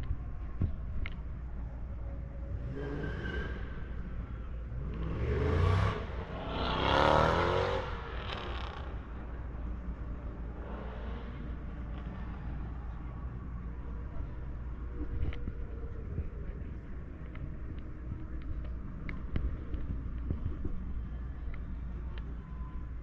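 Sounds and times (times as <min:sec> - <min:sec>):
low traffic rumble: 0:00.0 - 0:23.0
vehicles passing close by: 0:00.0 - 0:23.0.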